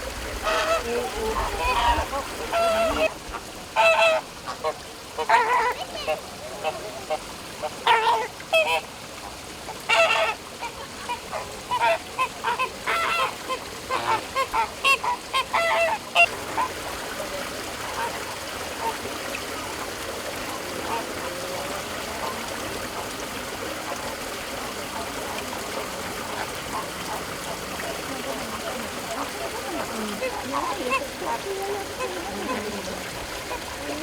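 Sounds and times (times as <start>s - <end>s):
flamingos honking: 0.0s - 8.8s, 9.7s - 34.0s.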